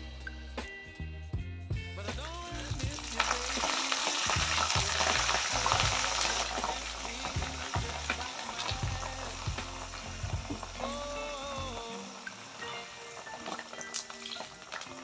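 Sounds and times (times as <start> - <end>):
leaves deep-frying in oil: 2.2 - 15.0.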